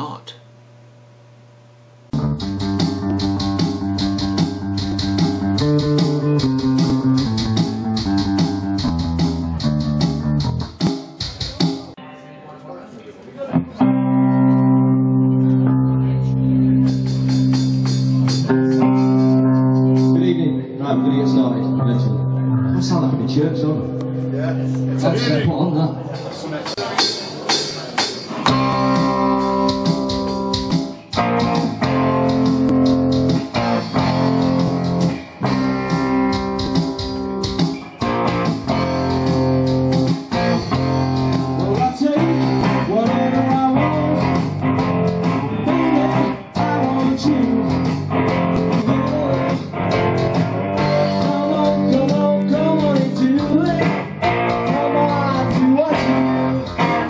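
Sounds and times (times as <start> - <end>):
amplified electric guitars: 2.1 - 57.0
live band music: 2.2 - 12.3, 13.5 - 57.0.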